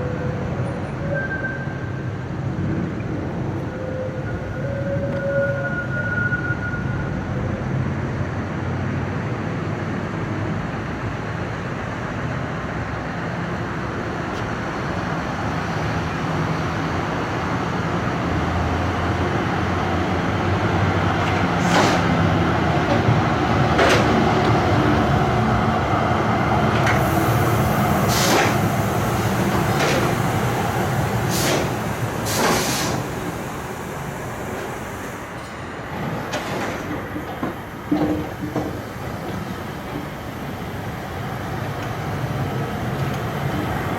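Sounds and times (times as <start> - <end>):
tram rumbling on track: 0.0 - 43.9.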